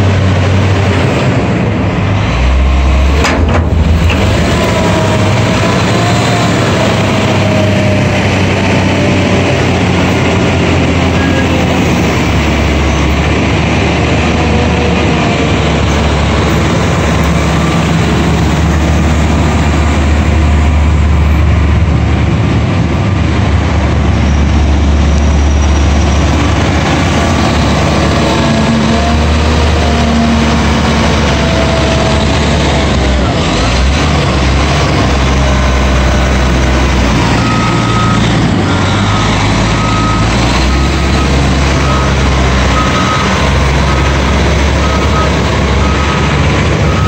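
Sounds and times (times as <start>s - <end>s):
diesel engine low drone: 0.0s - 47.0s.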